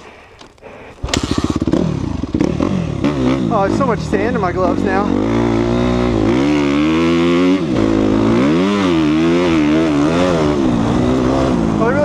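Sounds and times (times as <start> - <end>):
dirt bike engine revving: 1.0 - 12.0.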